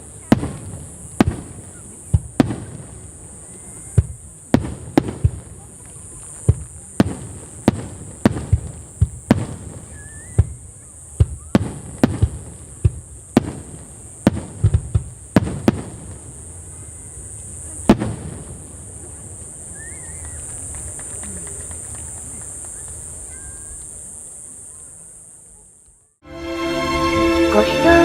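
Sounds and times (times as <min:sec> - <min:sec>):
fireworks bursting: 0:00.0 - 0:24.6.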